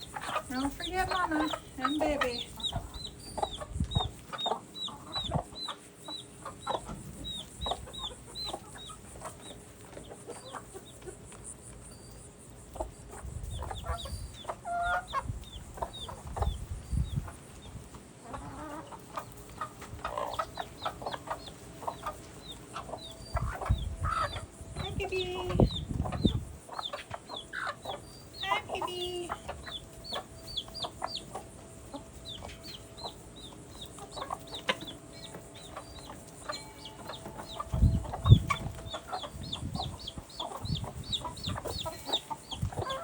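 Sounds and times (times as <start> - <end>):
chicks peeping: 0.0 - 43.0
hens clucking: 0.0 - 43.0.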